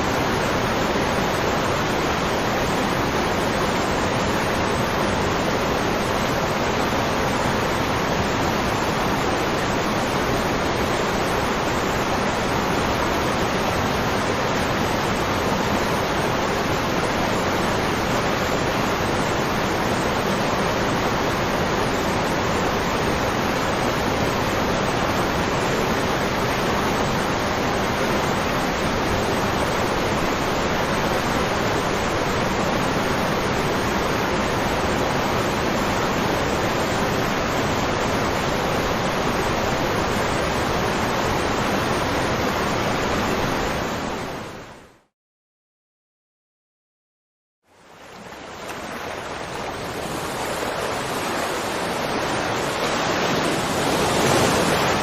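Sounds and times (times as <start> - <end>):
waterfall rushing: 0.0 - 44.6, 47.7 - 55.0.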